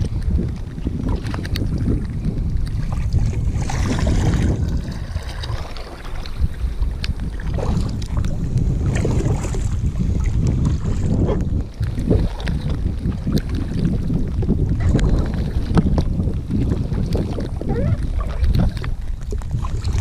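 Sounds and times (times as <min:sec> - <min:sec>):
paddle strokes splashing: 0:00.0 - 0:20.0
wind rumble on microphone: 0:00.0 - 0:20.0.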